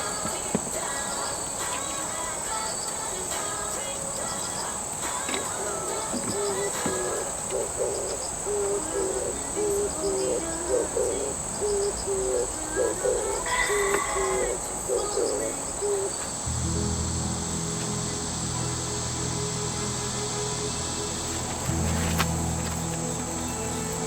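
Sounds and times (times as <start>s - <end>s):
high insect-like chirring: 0.0s - 24.0s
low hooting notes: 0.0s - 24.0s
low steady hum: 0.0s - 24.0s.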